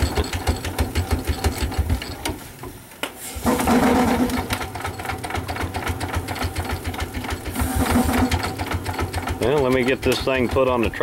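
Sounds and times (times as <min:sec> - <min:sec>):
steam traction engine clattering: 0:00.0 - 0:02.3, 0:03.4 - 0:11.0.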